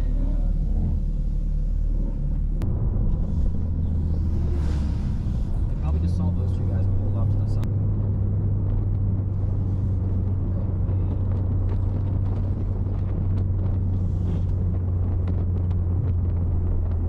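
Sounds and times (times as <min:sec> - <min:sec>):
car engine drone from inside: 0:00.0 - 0:17.0.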